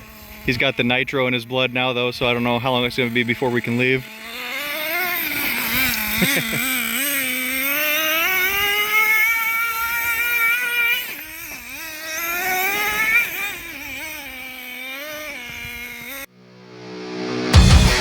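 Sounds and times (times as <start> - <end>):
rc truck engine revving: 0.0 - 16.3.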